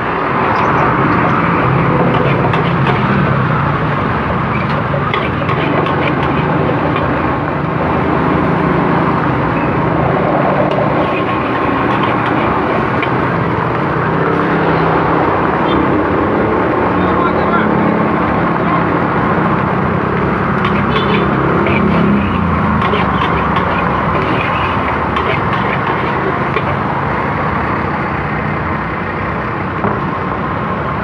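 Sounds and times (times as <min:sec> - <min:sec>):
gas burner roaring: 0:00.0 - 0:31.0.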